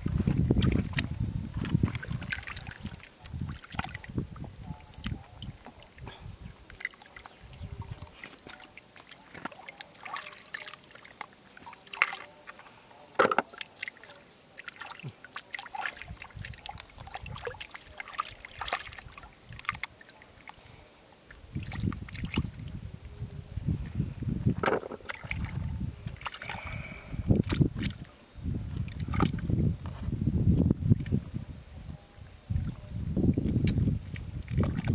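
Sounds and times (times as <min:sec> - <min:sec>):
mud squelching: 0:00.0 - 0:23.0, 0:23.7 - 0:28.2, 0:28.8 - 0:30.0, 0:32.7 - 0:34.9
water sloshing and trickling: 0:00.0 - 0:34.9.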